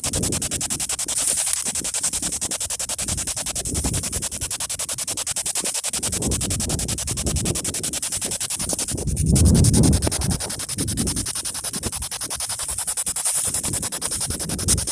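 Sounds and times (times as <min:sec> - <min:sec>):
wind rumble on microphone: 0:00.0 - 0:05.2, 0:06.0 - 0:14.9
radio static rapidly chopping: 0:00.0 - 0:14.9.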